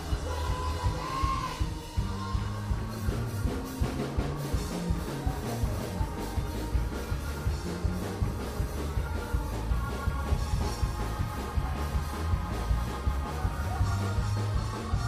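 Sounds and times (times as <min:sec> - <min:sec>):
band music: 0:00.0 - 0:15.0
bass line: 0:00.0 - 0:15.0
drum kit beat: 0:00.0 - 0:15.0.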